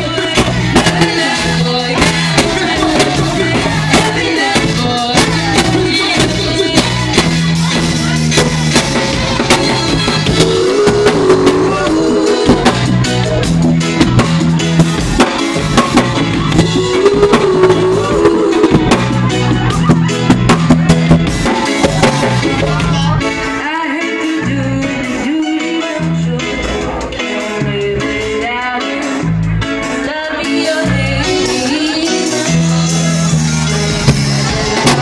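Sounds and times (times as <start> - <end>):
electric bass: 0.0 - 23.6, 24.4 - 25.4, 26.0 - 35.0
drum kit: 0.0 - 35.0
live band music: 0.0 - 35.0.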